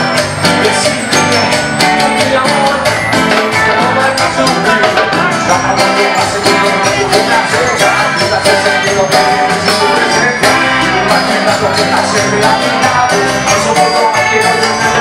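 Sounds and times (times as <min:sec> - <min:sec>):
drum kit beat: 0:00.0 - 0:15.0
jingling hand percussion: 0:00.0 - 0:15.0
live band playing: 0:00.0 - 0:15.0.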